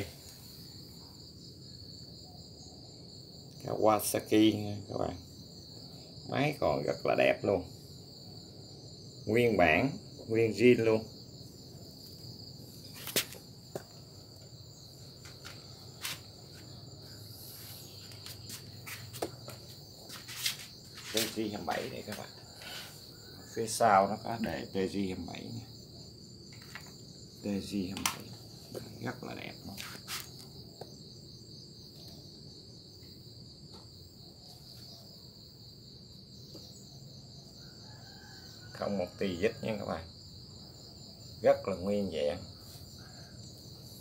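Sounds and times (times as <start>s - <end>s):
insect trilling: 0.0s - 44.0s.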